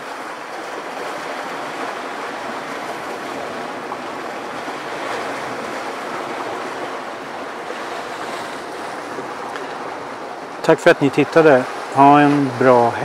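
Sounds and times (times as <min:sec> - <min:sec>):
sea waves breaking on rocks: 0:00.0 - 0:13.0.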